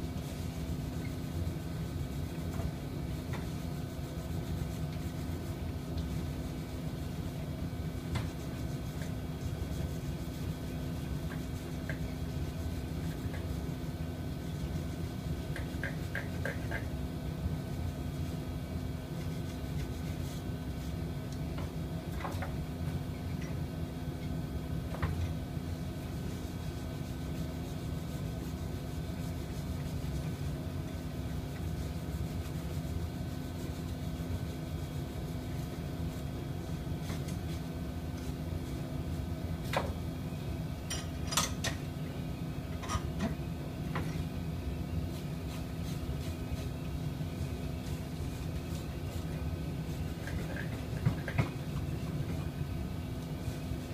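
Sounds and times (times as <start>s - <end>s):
workshop machinery humming: 0.0s - 53.9s.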